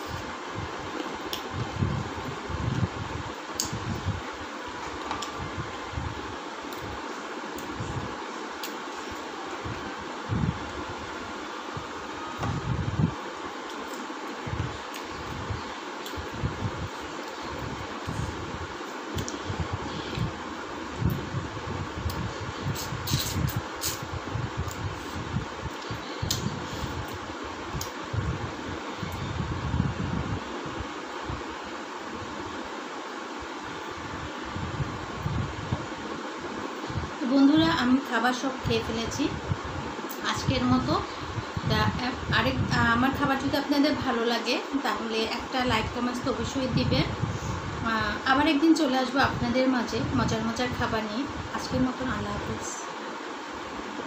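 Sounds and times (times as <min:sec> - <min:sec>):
fan-like background noise: 0:00.0 - 0:54.0.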